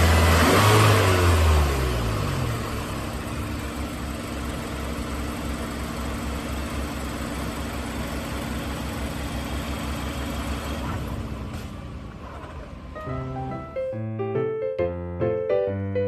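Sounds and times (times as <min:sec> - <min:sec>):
engine idling: 0:00.0 - 0:13.7.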